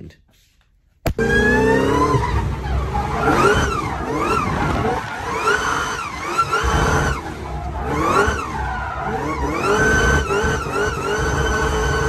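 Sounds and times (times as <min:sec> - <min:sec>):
car engine revving: 0:01.1 - 0:12.0.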